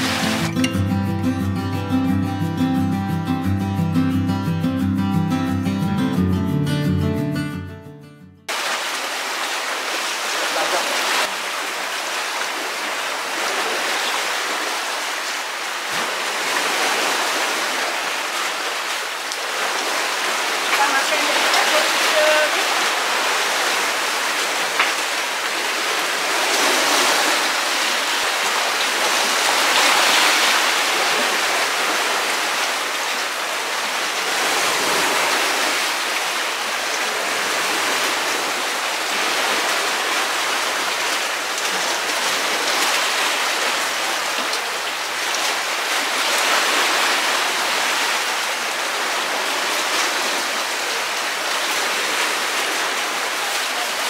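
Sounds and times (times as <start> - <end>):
water rushing and washing: 0.0 - 1.4, 8.5 - 54.0.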